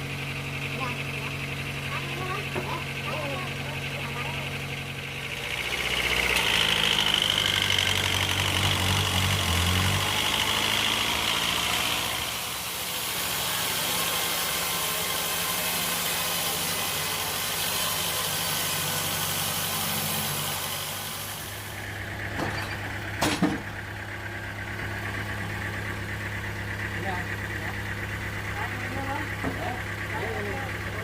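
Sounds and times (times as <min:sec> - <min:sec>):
sawmill machinery engine running: 0:00.0 - 0:31.0.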